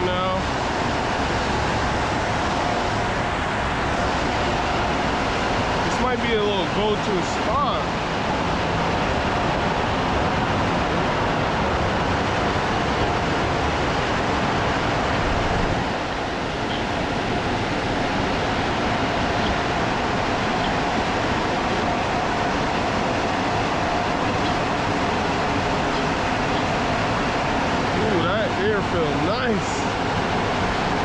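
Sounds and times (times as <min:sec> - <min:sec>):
air dryer blowers rushing: 0:00.0 - 0:31.0.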